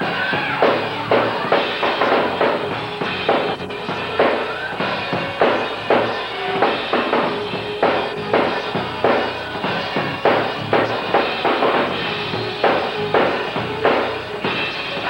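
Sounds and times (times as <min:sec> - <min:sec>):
drum kit beat: 0:00.0 - 0:15.0
gospel band playing: 0:00.0 - 0:15.0.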